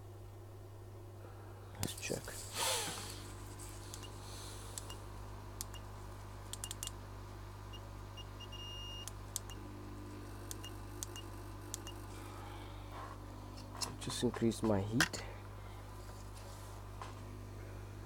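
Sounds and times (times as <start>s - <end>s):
hot air station humming: 0.0s - 18.0s.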